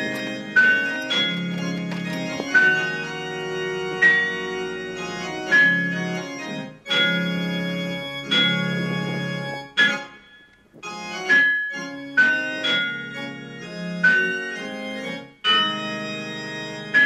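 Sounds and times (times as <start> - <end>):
organ-like keyboard tune: 0.0 - 17.0.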